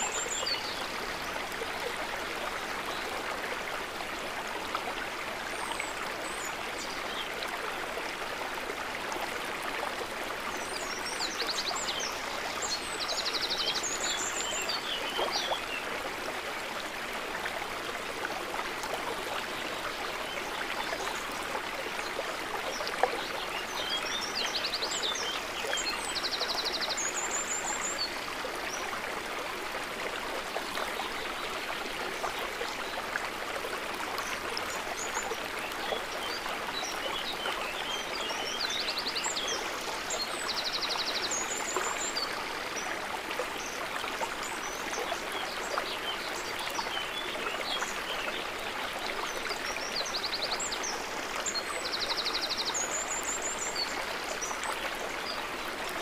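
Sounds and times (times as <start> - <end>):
water trickling and gurgling: 0.0 - 56.0.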